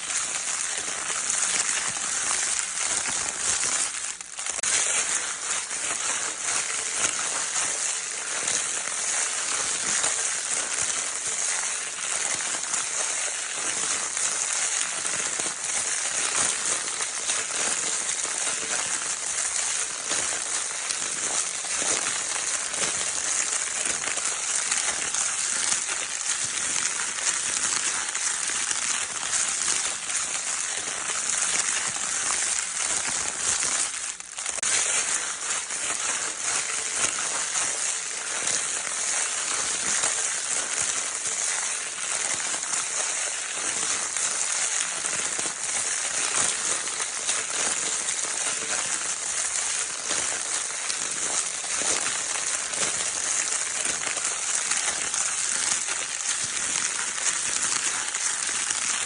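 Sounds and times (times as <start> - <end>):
crinkle paper rustling: 0.0 - 59.0.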